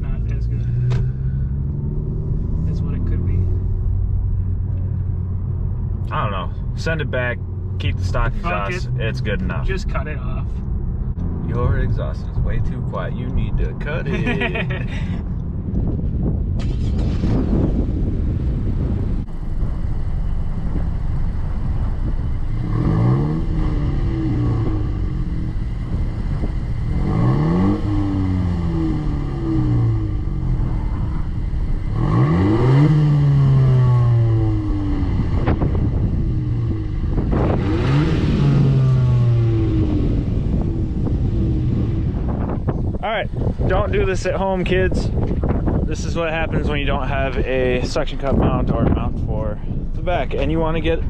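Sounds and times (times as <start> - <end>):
car exhaust revving under acceleration: 0.0 - 51.0
low engine and road drone: 0.0 - 51.0.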